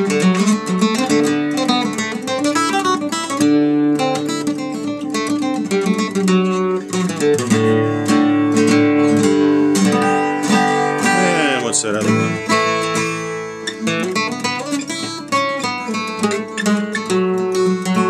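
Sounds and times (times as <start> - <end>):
steel-string instrument picked and strummed: 0.0 - 18.0.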